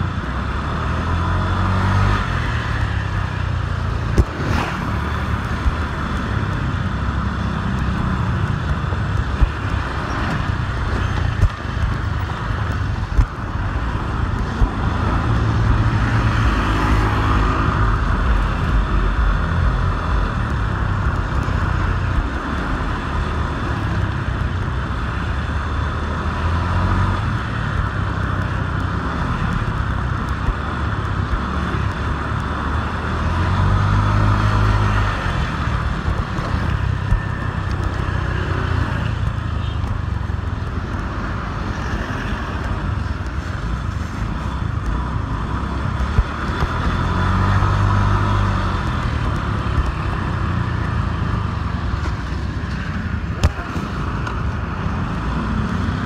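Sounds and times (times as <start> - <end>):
other vehicles passing: 0.0 - 56.0
road noise: 0.0 - 56.0.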